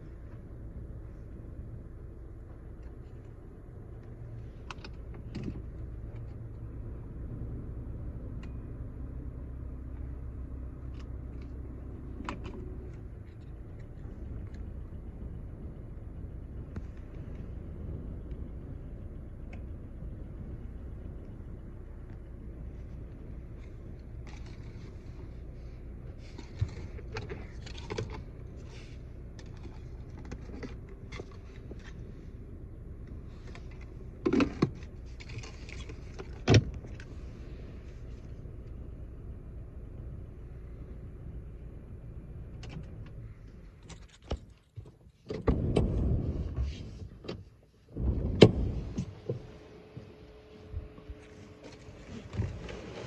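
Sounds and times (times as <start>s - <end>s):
car cabin hum: 0.0s - 53.0s.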